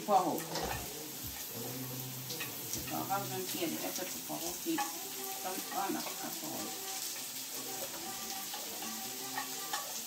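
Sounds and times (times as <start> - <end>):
vegetables sizzling in hot oil: 0.0 - 10.0
spatula stirring in pan: 0.1 - 10.0.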